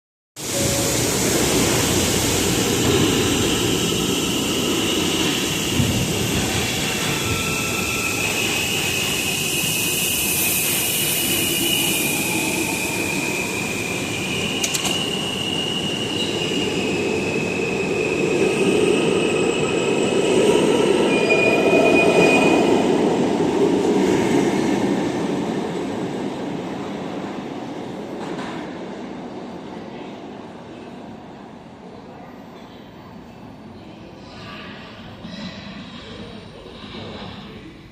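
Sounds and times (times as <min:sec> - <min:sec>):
subway train running on rails: 0:00.4 - 0:37.9.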